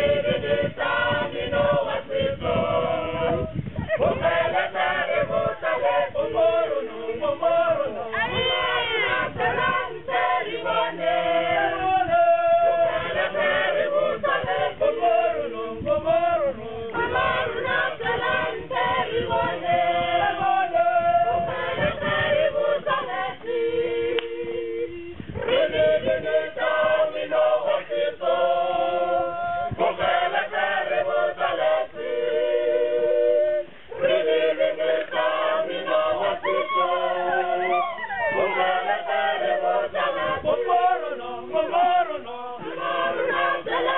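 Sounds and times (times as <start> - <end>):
group singing in harmony: 0.0 - 43.9.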